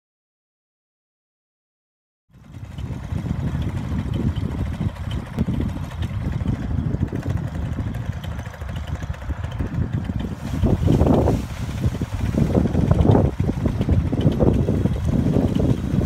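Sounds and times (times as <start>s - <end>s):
strong wind buffeting microphone: 2.3s - 16.0s.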